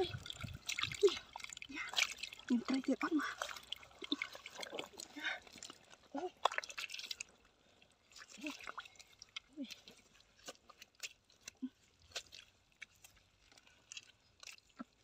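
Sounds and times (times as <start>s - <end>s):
wet mud squelches: 0.0s - 15.0s.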